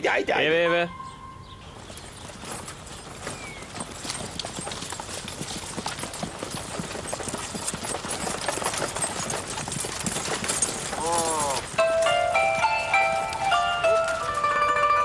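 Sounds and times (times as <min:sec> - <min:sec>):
horse hooves clip-clopping on dirt: 0:01.4 - 0:15.0.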